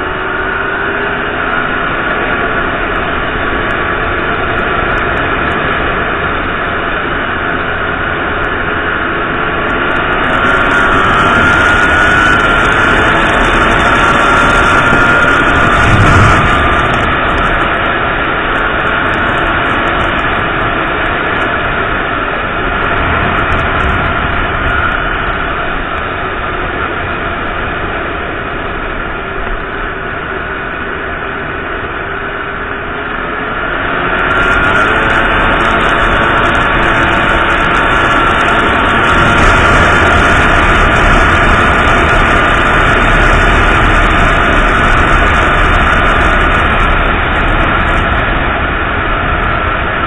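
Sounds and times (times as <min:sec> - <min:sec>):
small motorcycle engine running: 0:00.0 - 0:50.0
wind noise on microphone: 0:00.0 - 0:50.0.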